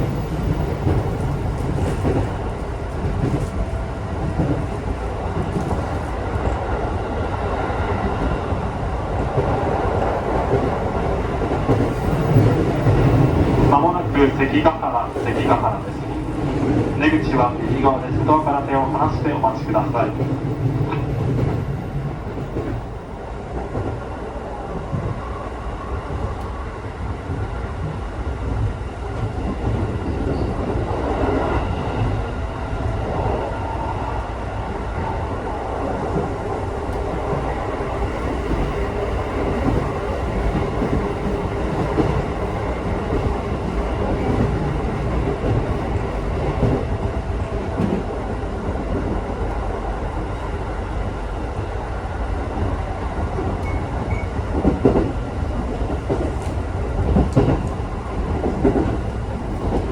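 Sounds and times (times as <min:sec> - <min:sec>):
train clickety-clack: 0:00.0 - 0:59.9
train wheels rumbling on rails: 0:00.0 - 0:59.9.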